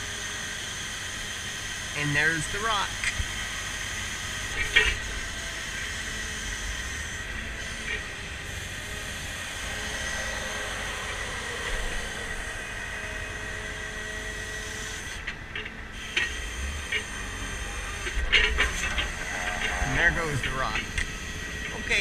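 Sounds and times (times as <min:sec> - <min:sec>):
hydraulic system whine and hiss: 0:00.0 - 0:15.3, 0:15.9 - 0:22.0.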